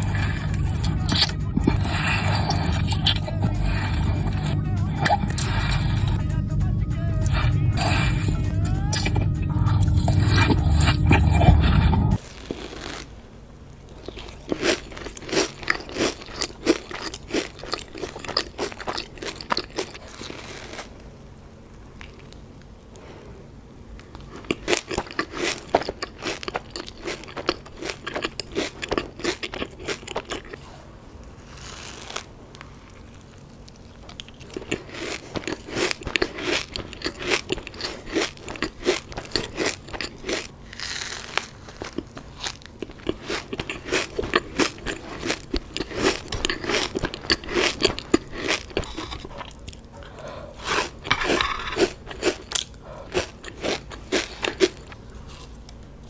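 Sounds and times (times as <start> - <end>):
crunchy chewing: 0.0 - 6.4, 7.0 - 56.0.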